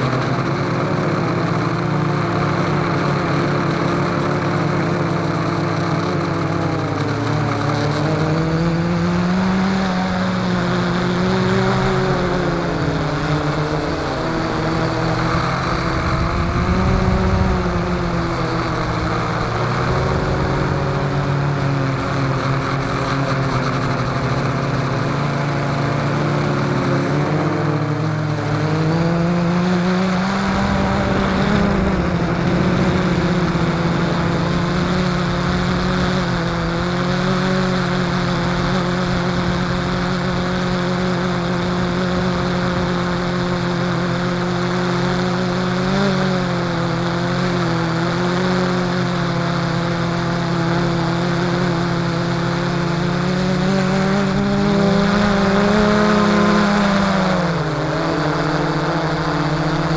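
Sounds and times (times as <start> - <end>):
drone propellers droning: 0.0 - 59.9.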